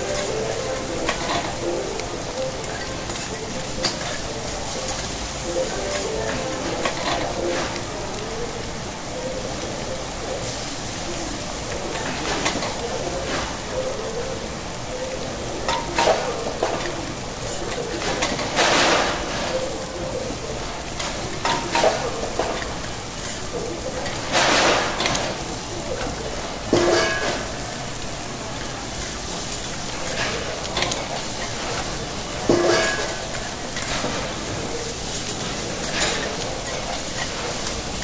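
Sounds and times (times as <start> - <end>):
rice sizzling on griddle: 0.0 - 38.0.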